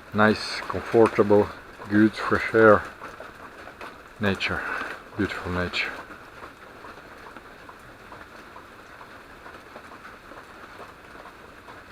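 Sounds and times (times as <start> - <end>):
rain hissing: 0.0 - 9.7
raindrops ticking: 0.0 - 11.9.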